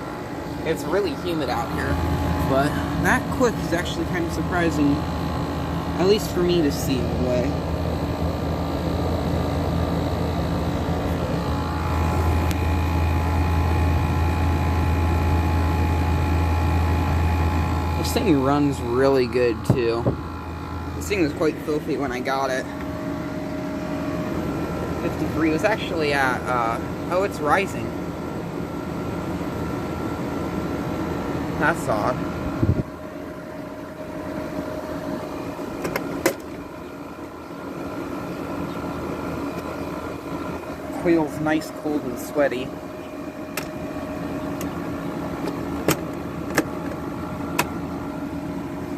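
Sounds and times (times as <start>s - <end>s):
air conditioner compressor hum: 0.0s - 48.9s
fan rushing: 0.0s - 48.9s.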